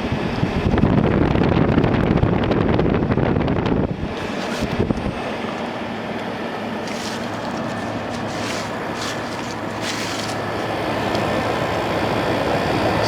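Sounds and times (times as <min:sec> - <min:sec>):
air conditioner hum and air rush: 0:00.0 - 0:13.0.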